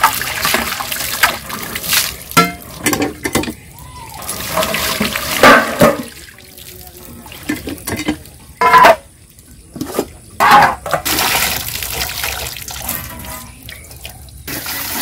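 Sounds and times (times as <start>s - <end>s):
water pouring into steel bowls: 0.0s - 15.0s.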